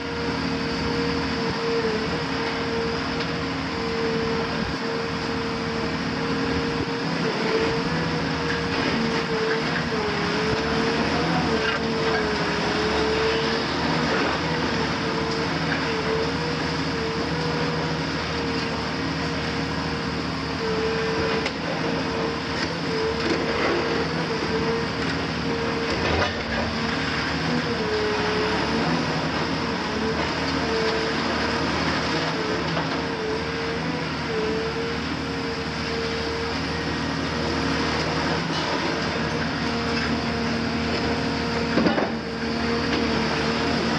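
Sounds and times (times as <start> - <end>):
excavator diesel engine and hydraulics: 0.0 - 43.9.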